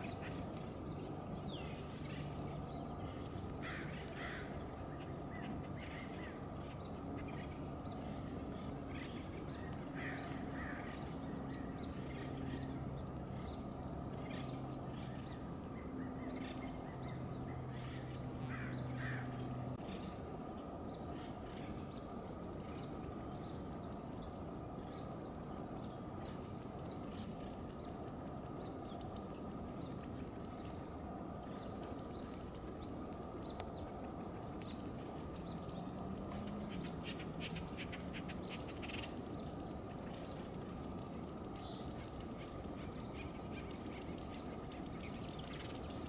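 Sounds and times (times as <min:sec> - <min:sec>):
low background rumble: 0:00.0 - 0:46.0
small birds chirping: 0:00.0 - 0:46.0.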